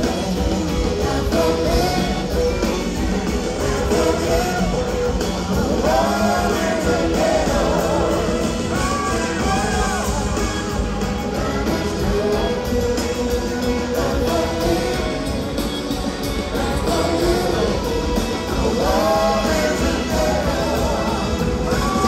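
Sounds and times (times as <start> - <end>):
drums: 0.0 - 22.0
electric guitars: 0.0 - 22.0
keyboards: 0.0 - 22.0
live band playing: 0.0 - 22.0
people singing: 0.0 - 22.0.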